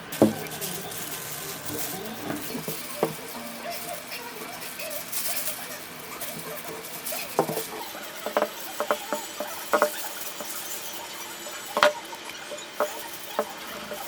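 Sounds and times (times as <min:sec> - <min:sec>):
kitchen utensils knocking and clicking: 0:00.0 - 0:14.0.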